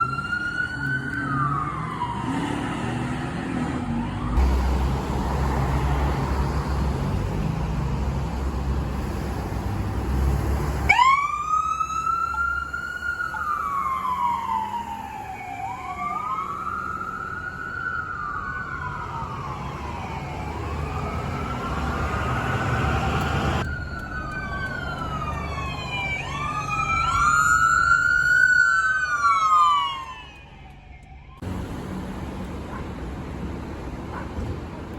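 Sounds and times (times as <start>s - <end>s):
emergency sirens wailing: 0.0s - 8.9s, 9.9s - 34.9s
vehicle rumble and road noise: 0.0s - 34.9s.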